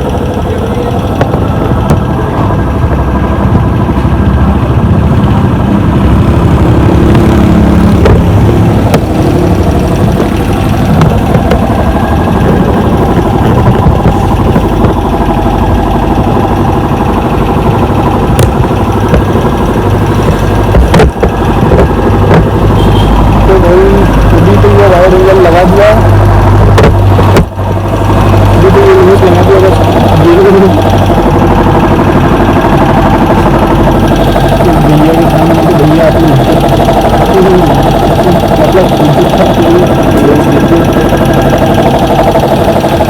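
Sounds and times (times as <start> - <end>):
motor running: 0.0 - 43.0.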